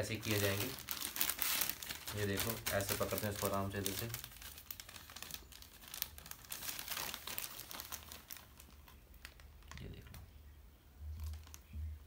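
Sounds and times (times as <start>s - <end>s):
plastic bag crinkling: 0.0s - 10.3s, 11.1s - 12.0s.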